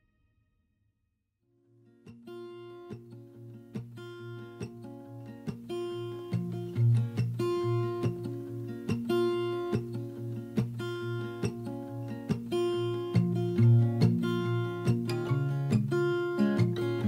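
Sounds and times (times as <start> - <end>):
plucked acoustic guitar music: 1.8 - 17.0.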